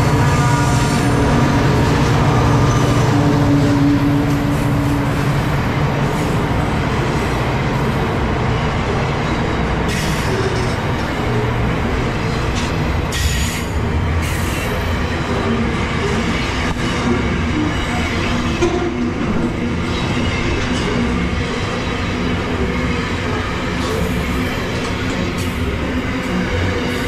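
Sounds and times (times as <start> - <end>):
diesel locomotive engine hum: 0.0 - 27.0
wagons rumbling on rails: 0.0 - 27.0.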